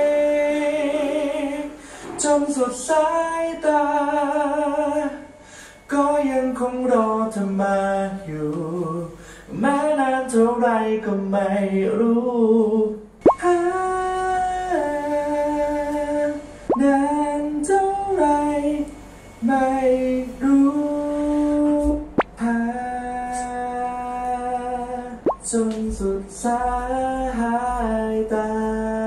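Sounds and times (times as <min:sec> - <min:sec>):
a cappella singing: 0:00.0 - 0:29.0.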